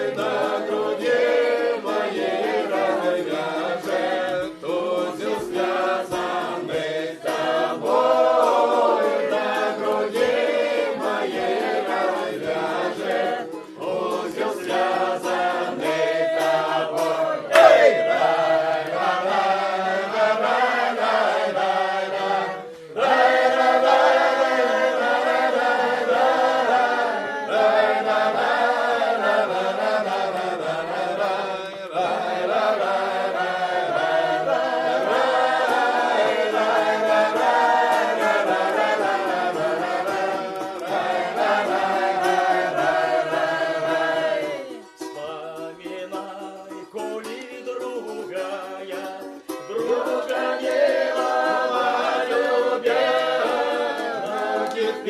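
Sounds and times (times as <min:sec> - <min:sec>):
group singing folk song: 0:00.0 - 0:55.0.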